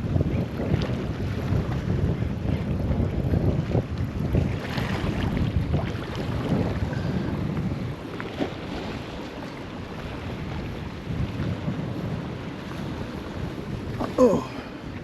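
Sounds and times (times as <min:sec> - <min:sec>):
waves washing: 0:00.0 - 0:15.0
wind buffeting microphone: 0:00.0 - 0:15.0.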